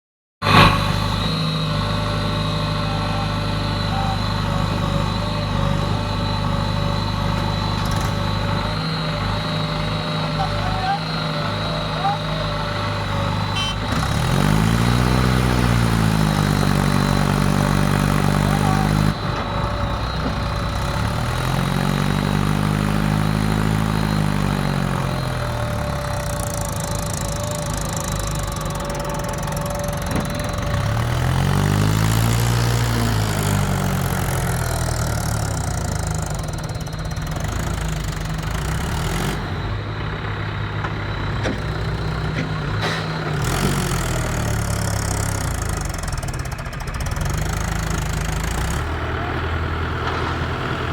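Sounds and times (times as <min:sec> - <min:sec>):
tractor engine revving: 0:00.4 - 0:50.9.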